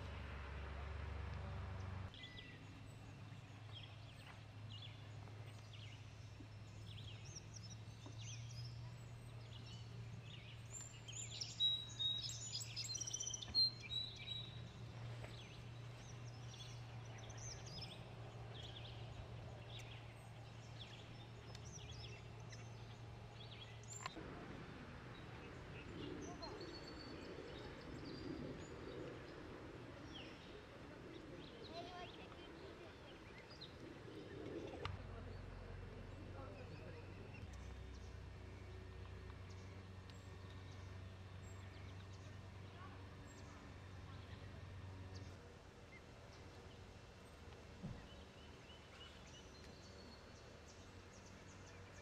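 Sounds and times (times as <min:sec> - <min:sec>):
small birds chirping: 0:00.0 - 0:52.0
steady low hum: 0:00.0 - 0:52.0.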